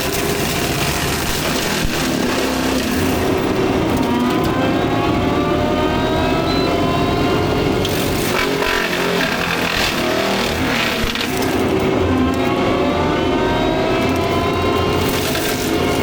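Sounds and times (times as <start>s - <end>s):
forestry mulcher whining: 0.0s - 16.0s.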